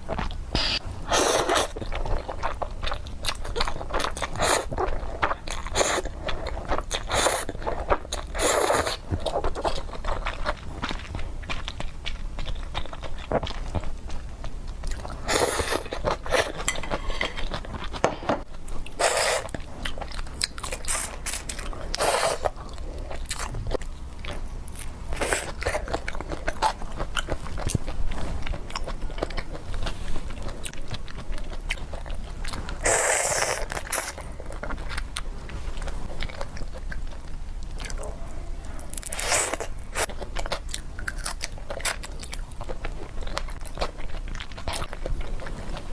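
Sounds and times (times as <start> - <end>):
low steady hum: 0.0 - 32.8, 33.6 - 45.9
chewing and crunching seafood: 0.0 - 45.9.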